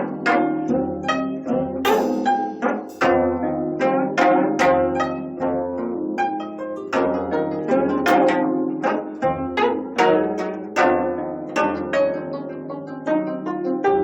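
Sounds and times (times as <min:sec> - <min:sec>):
plucked zithers playing: 0:00.0 - 0:14.0.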